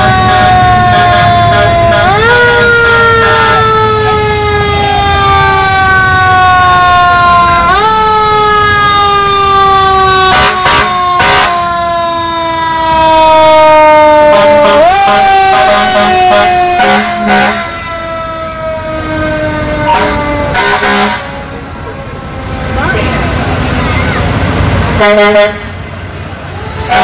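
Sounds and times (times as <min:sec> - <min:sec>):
fire engine siren wailing: 0:00.0 - 0:27.0.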